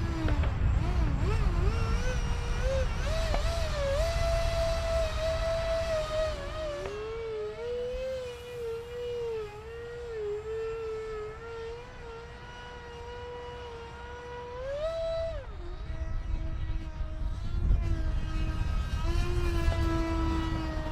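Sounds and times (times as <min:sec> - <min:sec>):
electric ducted fan whining: 0:00.0 - 0:20.9.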